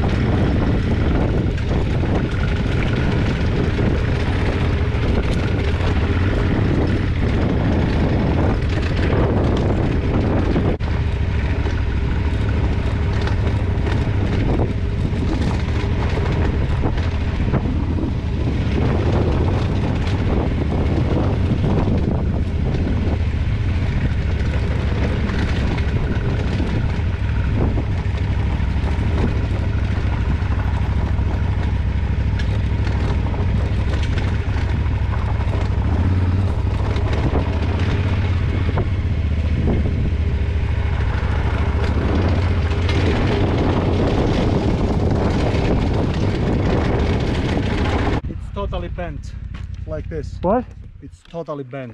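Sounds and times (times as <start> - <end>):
wheels knocking and rattling on stones: 0.0 - 48.6, 49.3 - 51.6
wind rumble on microphone: 0.0 - 51.2
motorcycle engine running: 0.0 - 51.5.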